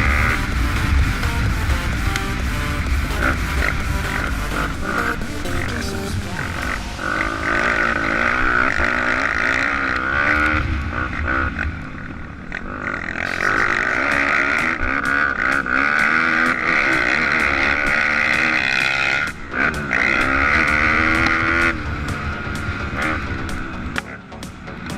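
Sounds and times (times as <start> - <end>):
motorbike engine revving: 0.0 - 24.9.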